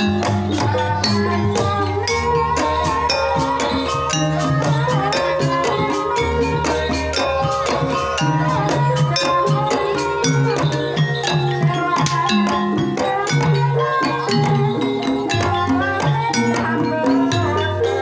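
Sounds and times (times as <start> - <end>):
ringing bronze metallophones: 0.0 - 18.0.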